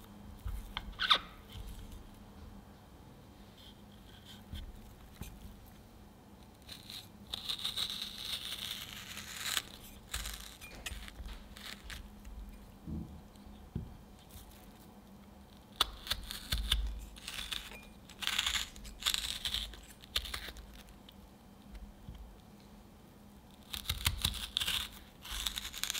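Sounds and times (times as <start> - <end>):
melon baller scraping peach flesh: 0.0 - 2.2, 3.5 - 5.7, 6.4 - 12.8, 13.4 - 21.1, 23.5 - 25.9.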